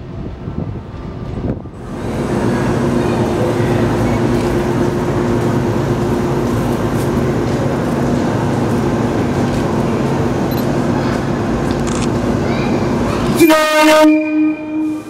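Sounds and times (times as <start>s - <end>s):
steady multi-tone train hum: 0.0s - 15.0s.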